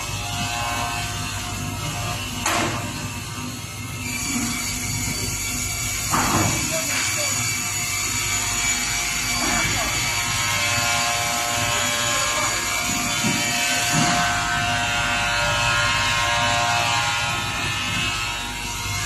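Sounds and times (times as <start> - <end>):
log saw whine and hum: 0.0 - 19.0.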